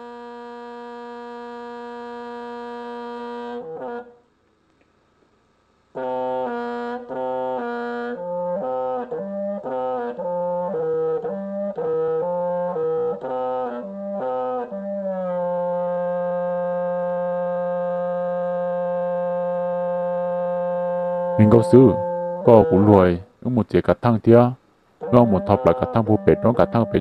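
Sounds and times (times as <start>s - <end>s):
horn-like wind instrument melody: 0.0s - 4.3s, 5.9s - 27.0s.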